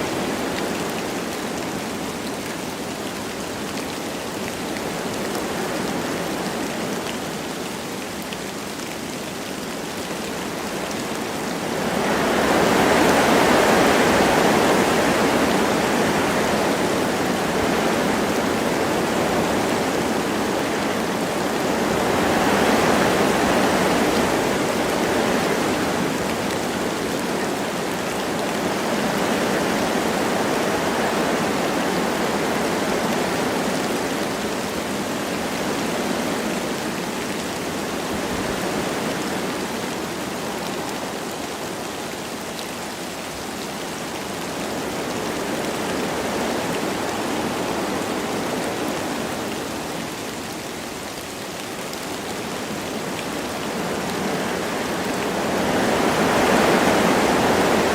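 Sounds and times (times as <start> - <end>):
light rain falling: 0.0 - 57.9
wind through forest trees: 0.0 - 57.9.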